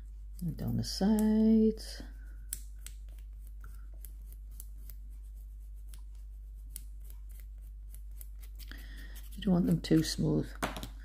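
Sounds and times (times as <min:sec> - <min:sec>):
nail file scratching: 0:00.4 - 0:10.1.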